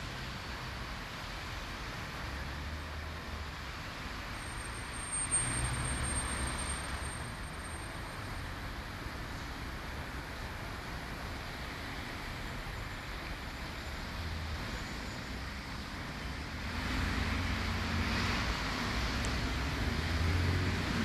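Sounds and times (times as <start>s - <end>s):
cars driving on snowy road: 0.0s - 21.0s.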